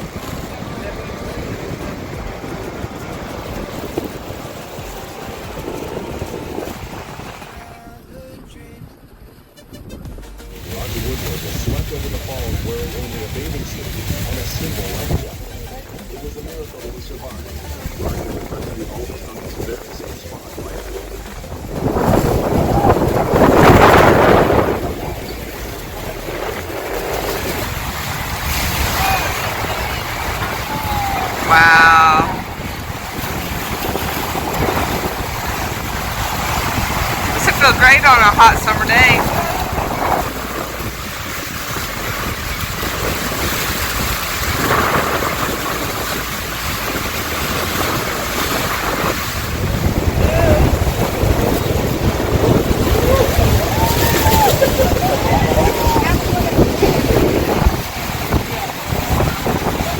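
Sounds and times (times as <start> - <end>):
rushing water roar: 0.0 - 8.0, 10.5 - 59.9
wind buffeting microphone: 0.0 - 59.9.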